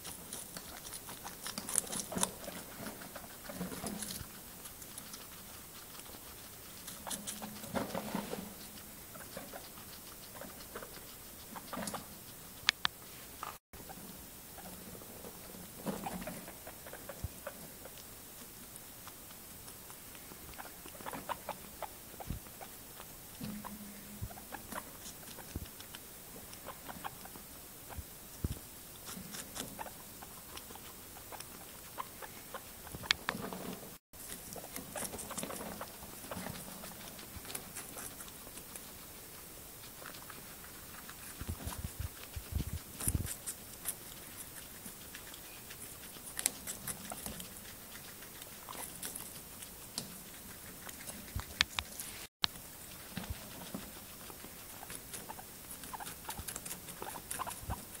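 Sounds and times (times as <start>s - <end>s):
guinea pigs chewing cucumber: 0.0s - 58.0s.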